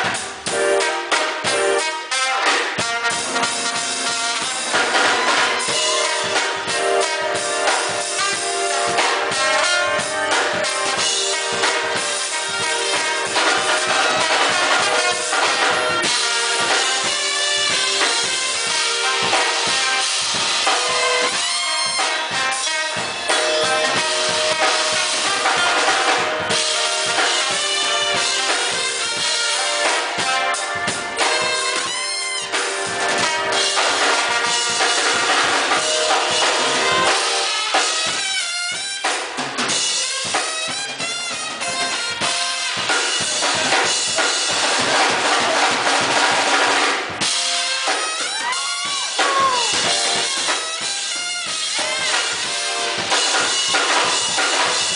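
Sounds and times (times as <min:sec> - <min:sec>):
drum kit beat: 0:00.0 - 0:54.9
live band playing: 0:00.0 - 0:54.9
saxophone and trombone horns: 0:00.0 - 0:54.9.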